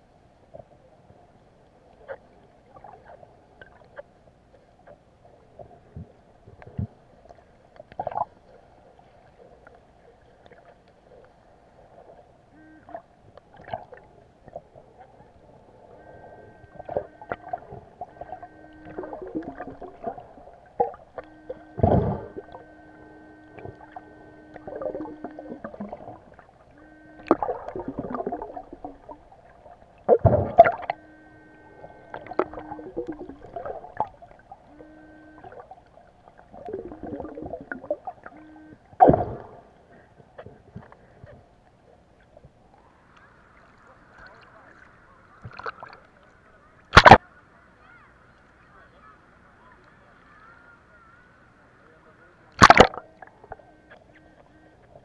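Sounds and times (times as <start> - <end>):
underwater gurgling and swishing: 0.0 - 47.2, 48.3 - 55.0
steady hum: 0.0 - 55.0.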